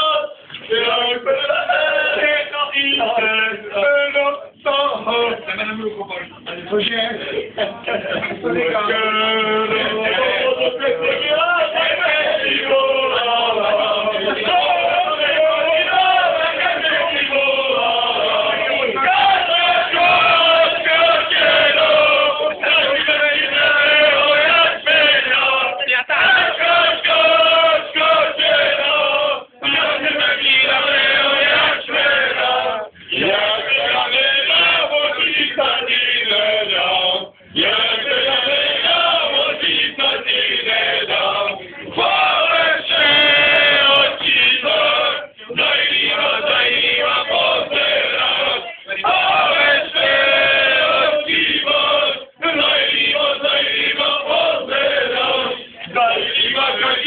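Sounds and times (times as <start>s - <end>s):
men singing and chanting: 0.0s - 5.5s, 7.2s - 57.0s.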